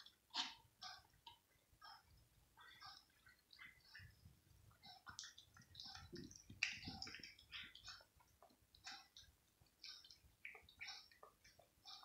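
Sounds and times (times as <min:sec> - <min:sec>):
cat chewing and licking: 0:00.0 - 0:12.0.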